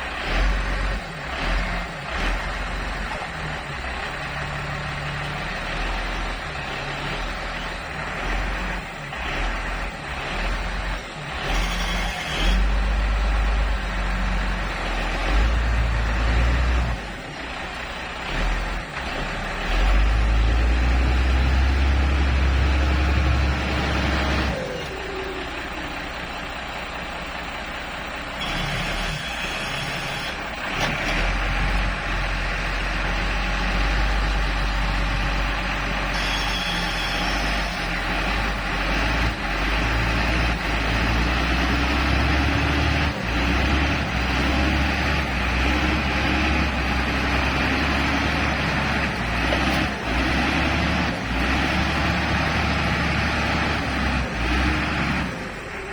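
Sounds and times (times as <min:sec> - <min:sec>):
diesel engine working under load: 0:00.0 - 0:55.9.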